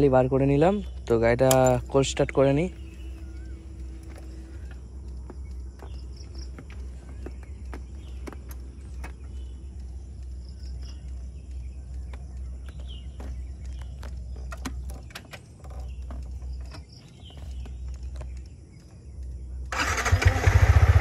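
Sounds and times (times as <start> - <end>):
bird chirps: 0.0 - 20.2
motorcycle engine idling: 0.5 - 21.0.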